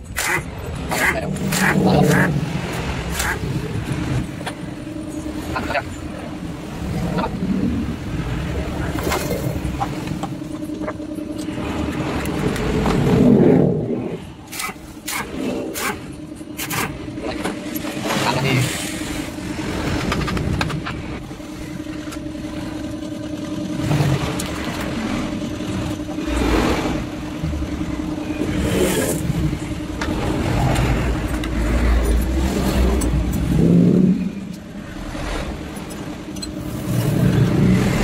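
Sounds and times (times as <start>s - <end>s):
engine running and revving: 0.0s - 38.0s.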